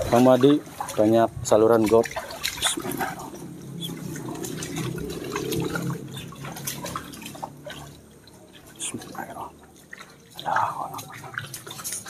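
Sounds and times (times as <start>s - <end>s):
water gurgling and splashing: 0.0s - 12.0s.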